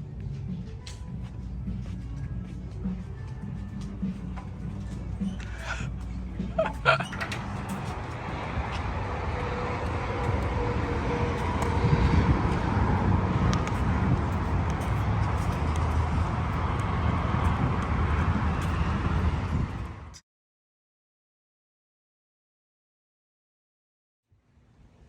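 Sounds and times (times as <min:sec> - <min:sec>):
car road noise: 0:00.0 - 0:20.2.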